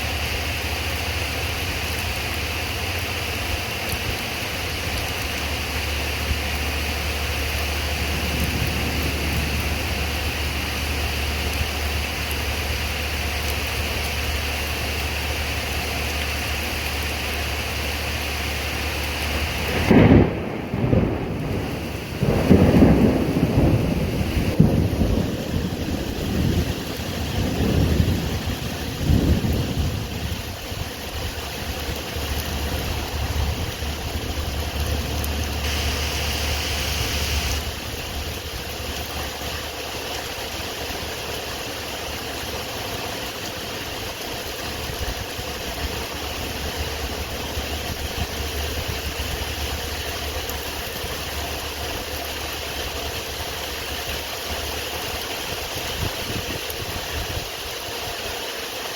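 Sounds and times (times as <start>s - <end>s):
steady rain: 0.0s - 58.9s
thunder rumbling: 0.4s - 57.6s.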